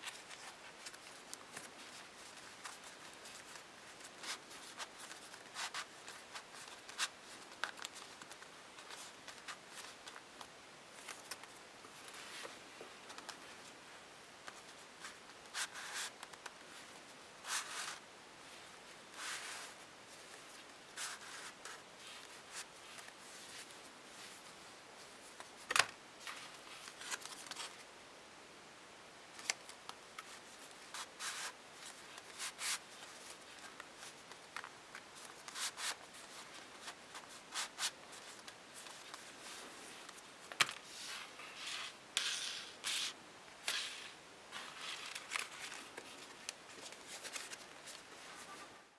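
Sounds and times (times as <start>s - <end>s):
paper rustling and rubbing: 0.0s - 13.5s, 14.5s - 25.6s, 29.4s - 48.7s.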